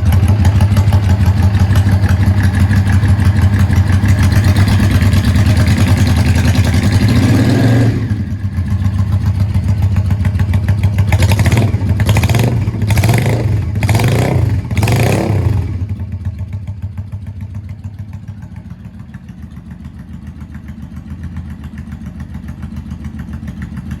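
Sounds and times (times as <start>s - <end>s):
motorcycle engine revving and idling: 0.0s - 24.0s.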